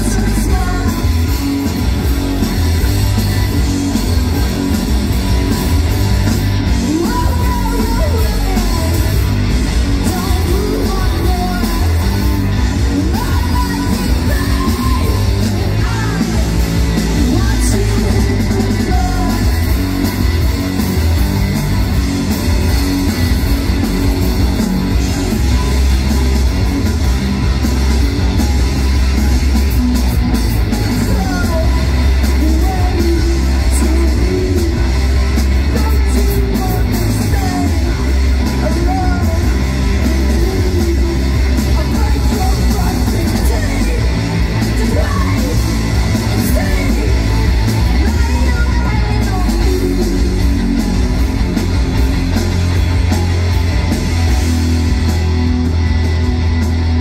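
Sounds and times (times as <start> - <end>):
bass guitar: 0.0 - 57.0
distorted electric guitars: 0.0 - 57.0
drums: 0.0 - 57.0
yelled vocals: 0.0 - 57.0.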